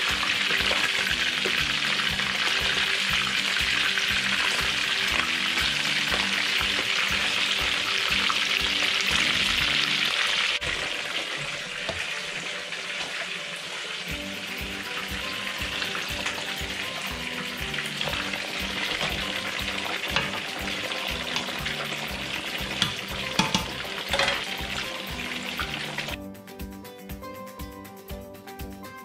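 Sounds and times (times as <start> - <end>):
background music with beat: 0.0 - 13.2, 14.1 - 29.0
fish sizzling in oil: 0.0 - 26.2.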